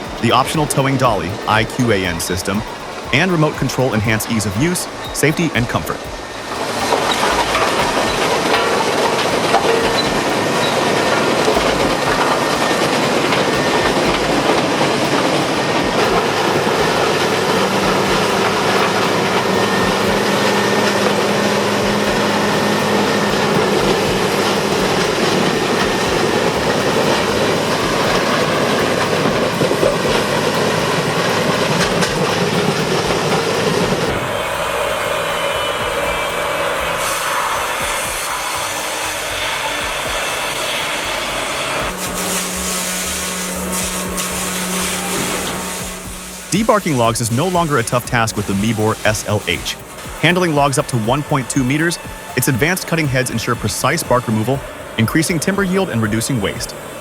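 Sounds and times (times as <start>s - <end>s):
steady hum: 0.0s - 57.0s
wood grinder roaring: 6.0s - 57.0s.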